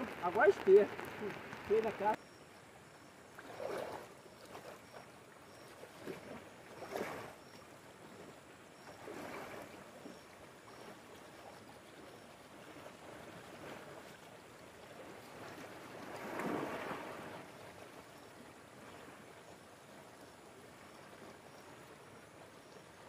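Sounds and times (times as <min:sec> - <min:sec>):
person wading through water: 0:02.9 - 0:23.0.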